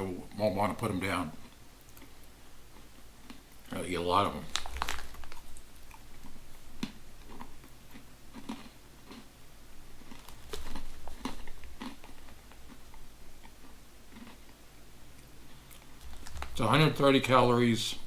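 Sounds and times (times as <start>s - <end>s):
pretzel sticks being chewed: 1.4s - 3.8s, 4.4s - 16.8s.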